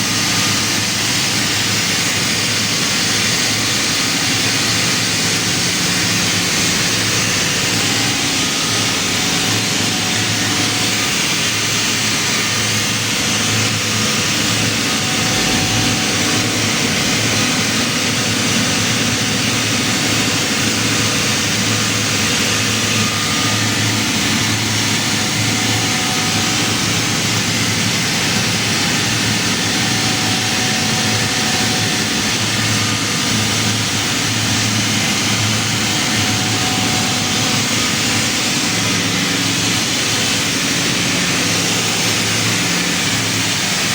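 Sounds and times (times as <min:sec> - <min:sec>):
air compressor hissing: 0:00.0 - 0:43.9.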